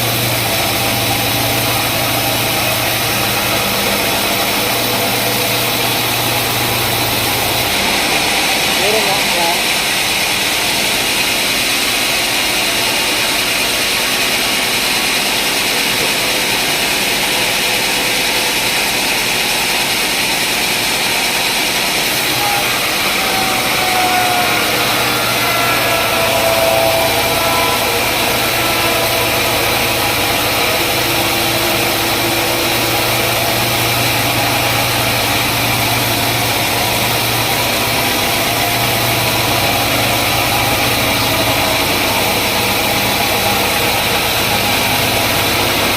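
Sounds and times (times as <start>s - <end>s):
deeper low hum: 0.0s - 13.5s, 21.2s - 45.9s
sawmill machinery humming: 0.0s - 45.9s.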